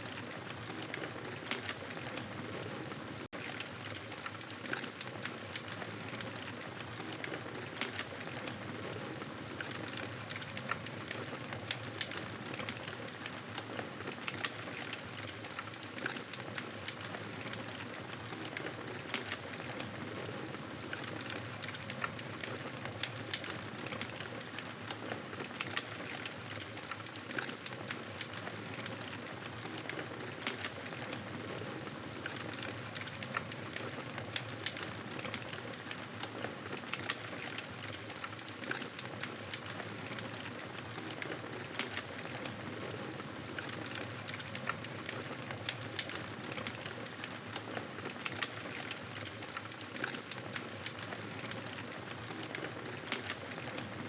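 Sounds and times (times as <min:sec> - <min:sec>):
campfire crackling: 0:00.1 - 0:54.0.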